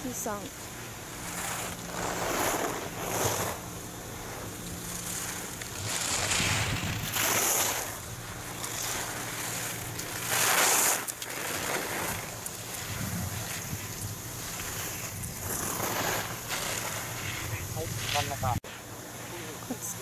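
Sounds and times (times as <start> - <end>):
skis scraping on hard snow: 1.1 - 18.8.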